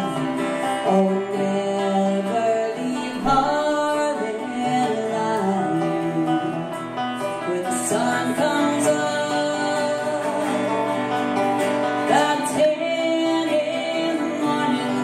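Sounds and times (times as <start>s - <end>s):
amplified guitar: 0.0s - 15.0s
person singing: 0.0s - 15.0s.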